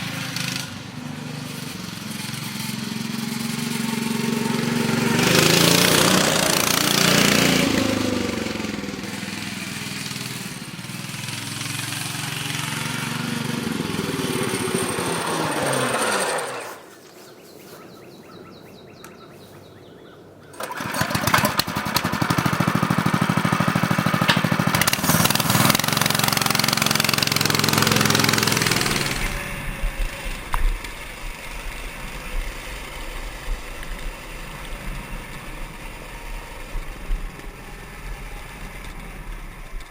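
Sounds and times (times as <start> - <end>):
small engine running and revving: 0.0 - 17.8, 20.5 - 39.9.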